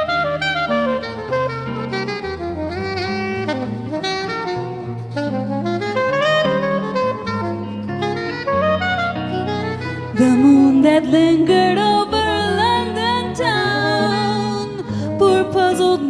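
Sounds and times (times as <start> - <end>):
guitar accompaniment: 0.0 - 16.0
soprano saxophone jazz melody: 0.0 - 16.0.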